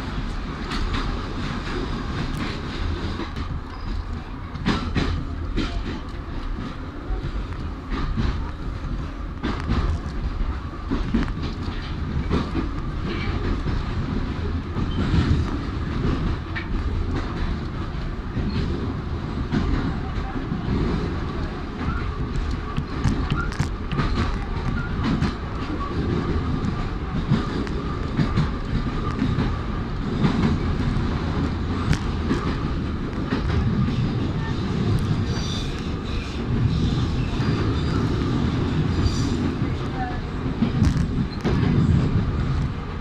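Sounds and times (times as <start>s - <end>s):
rail joint clicks: 0.0s - 43.0s
train wheels rumbling on rails: 0.0s - 43.0s.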